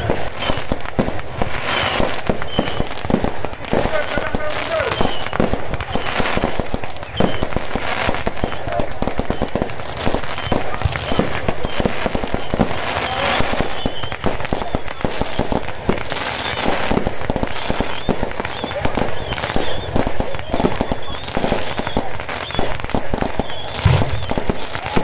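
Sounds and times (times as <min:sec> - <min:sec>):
fireworks crackling and banging: 0:00.0 - 0:25.0
voices: 0:01.7 - 0:25.0.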